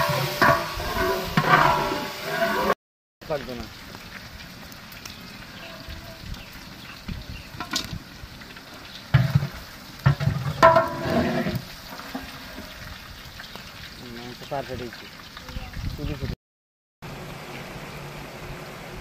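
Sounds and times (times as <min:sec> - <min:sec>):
meat sizzling in oil: 0:00.0 - 0:16.4.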